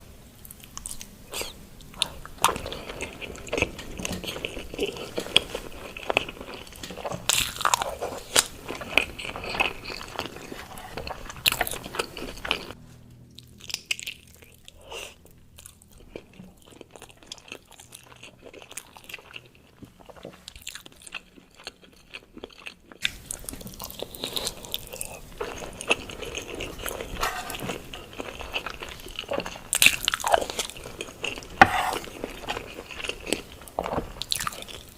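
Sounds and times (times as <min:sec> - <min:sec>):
crunchy chewing: 0:00.4 - 0:34.9.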